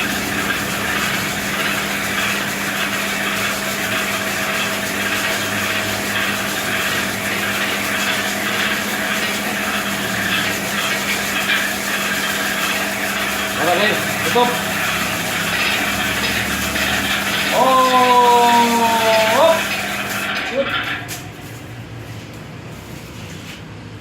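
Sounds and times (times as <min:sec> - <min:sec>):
winding machine motor hum: 0:00.0 - 0:22.2.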